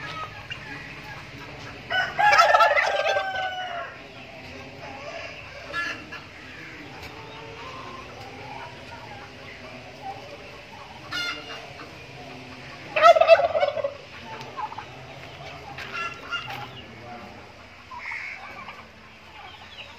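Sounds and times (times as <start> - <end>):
turkeys gobbling: 0.0 - 19.9.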